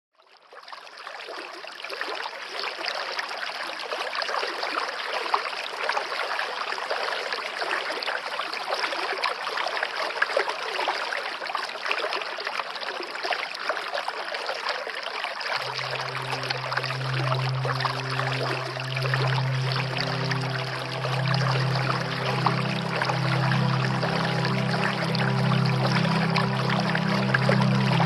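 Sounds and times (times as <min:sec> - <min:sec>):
running water: 0:00.5 - 0:28.0.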